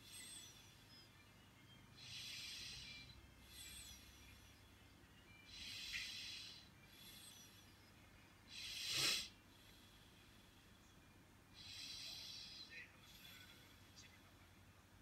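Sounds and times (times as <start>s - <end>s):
soft breaths: 0.0s - 14.6s.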